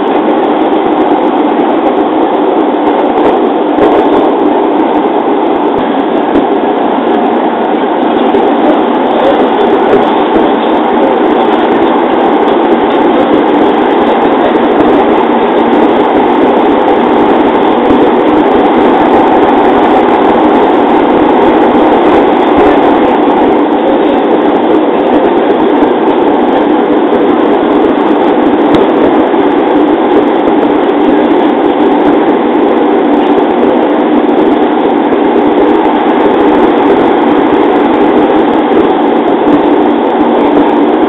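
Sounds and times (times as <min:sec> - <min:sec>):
electric train running: 0:00.0 - 0:41.0.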